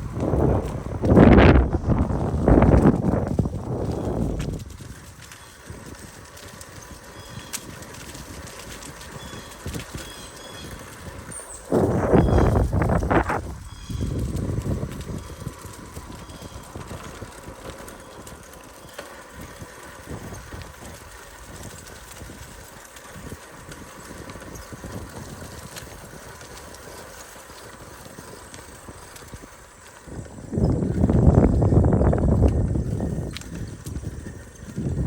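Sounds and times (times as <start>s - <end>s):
bicycle knocks and rattles: 0.0s - 35.0s
bicycle rolling on rough trail: 0.0s - 35.0s.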